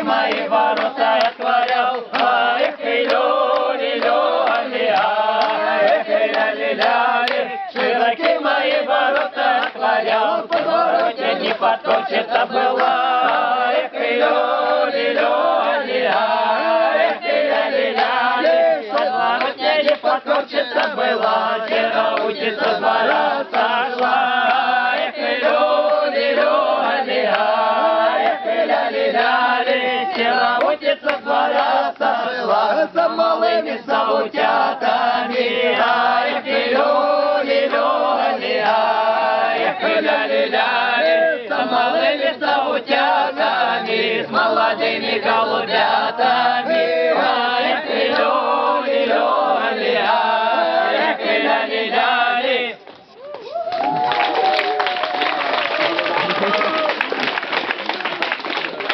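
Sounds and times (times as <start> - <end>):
group singing unaccompanied: 0.0 - 53.2.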